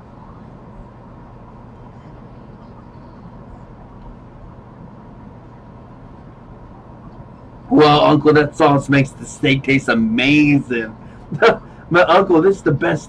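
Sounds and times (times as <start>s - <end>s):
faint steady tone: 0.0s - 13.0s
low hum: 0.0s - 13.0s.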